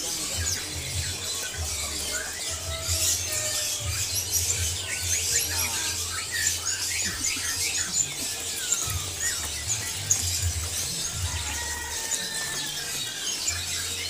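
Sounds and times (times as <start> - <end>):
songbirds chirping and twittering: 0.0 - 14.0.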